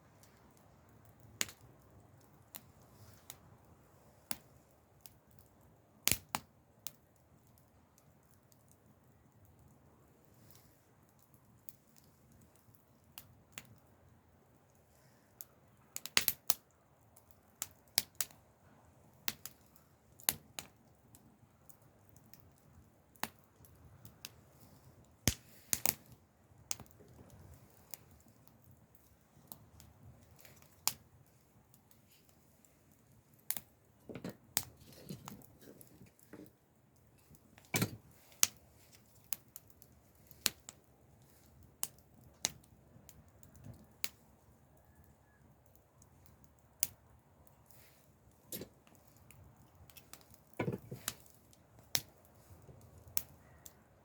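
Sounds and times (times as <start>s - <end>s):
campfire crackling and popping: 0.0s - 53.8s.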